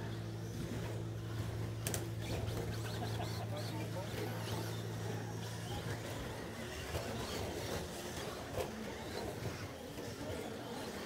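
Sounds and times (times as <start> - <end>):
rc car motor whines: 0.0 - 11.0.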